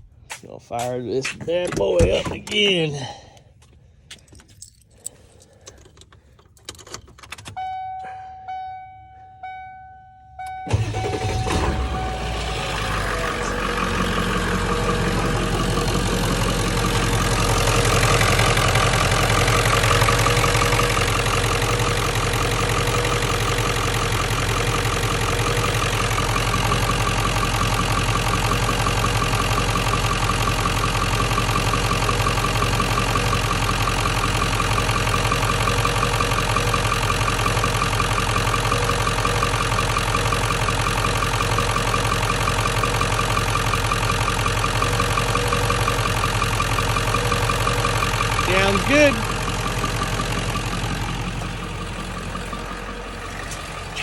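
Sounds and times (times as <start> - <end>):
diesel engine idling: 10.4 - 54.0.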